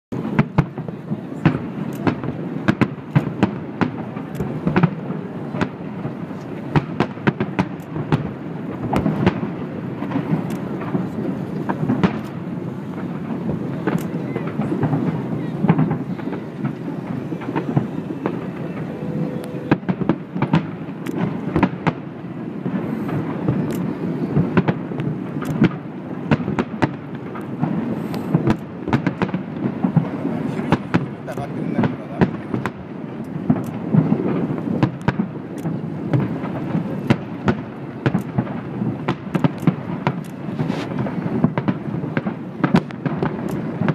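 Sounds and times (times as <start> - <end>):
fireworks bursting with sharp bangs: 0.1 - 43.9
low rumble of fireworks echoing: 0.1 - 43.9.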